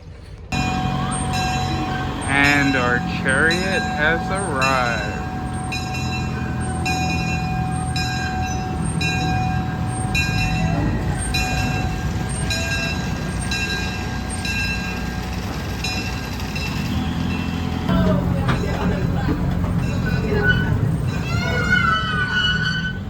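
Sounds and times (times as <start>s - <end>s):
ride train drive hum: 0.0s - 23.0s.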